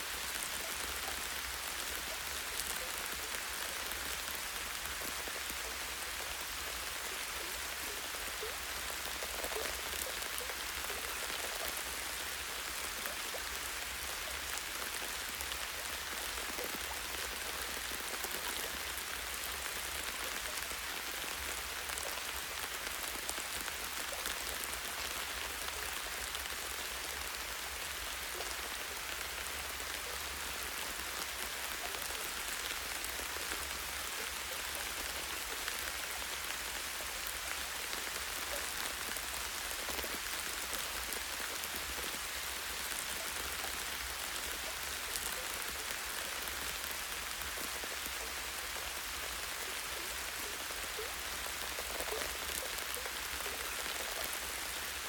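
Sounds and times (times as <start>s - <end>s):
light rain on foliage: 0.0s - 55.0s.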